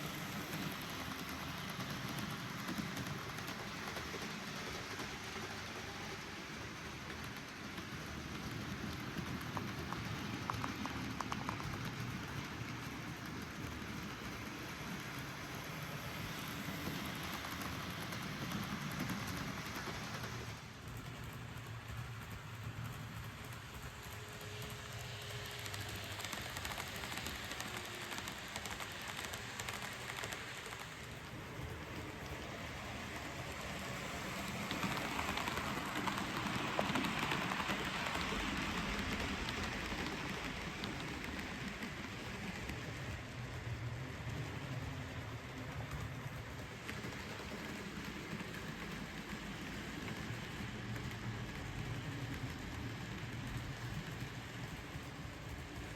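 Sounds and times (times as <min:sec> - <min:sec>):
model train rattling on track: 0:00.0 - 0:55.9.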